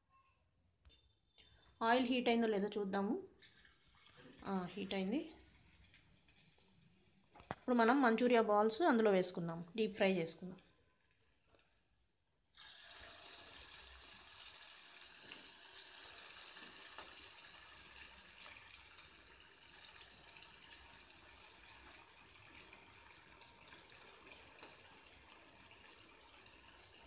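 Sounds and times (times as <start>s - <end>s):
balls deep-frying in hot oil: 3.3s - 11.4s, 12.1s - 27.0s.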